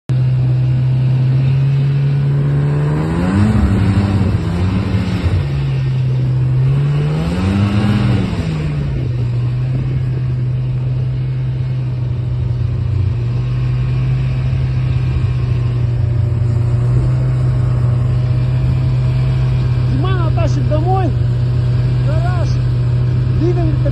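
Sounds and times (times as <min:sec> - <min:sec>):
engine idling and revving: 0:00.1 - 0:23.9.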